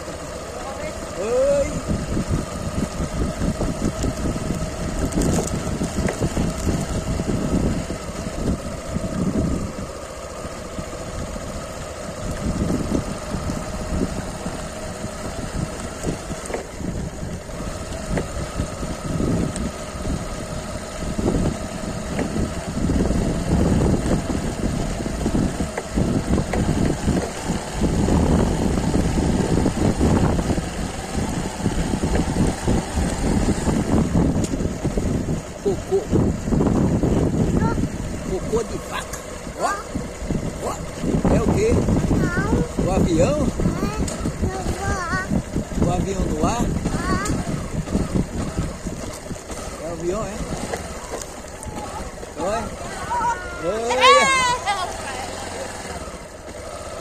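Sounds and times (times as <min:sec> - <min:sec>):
motorcycle engine running: 0:00.0 - 0:57.0
wind rumble on microphone: 0:01.1 - 0:10.0, 0:10.8 - 0:53.0.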